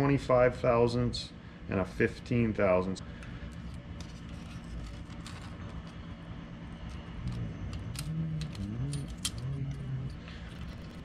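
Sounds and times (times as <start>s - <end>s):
low steady hum: 0.0s - 11.0s
low wavering hum: 0.0s - 11.0s.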